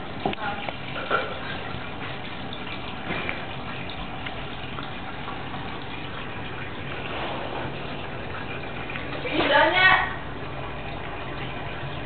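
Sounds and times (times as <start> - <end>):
running water splashing: 0.0 - 12.0.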